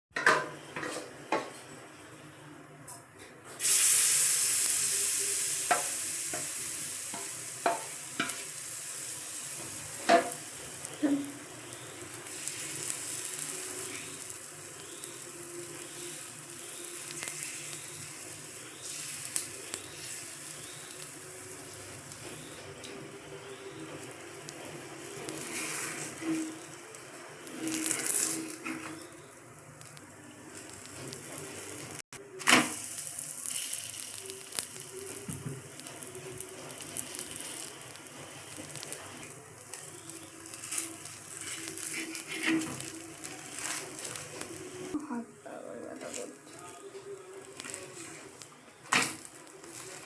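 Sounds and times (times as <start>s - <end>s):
food sizzling on griddle: 3.6s - 50.0s.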